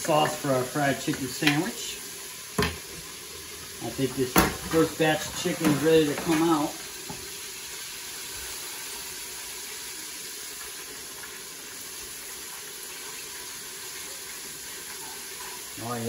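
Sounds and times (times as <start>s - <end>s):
deep-frying sizzling hiss: 0.0s - 16.0s.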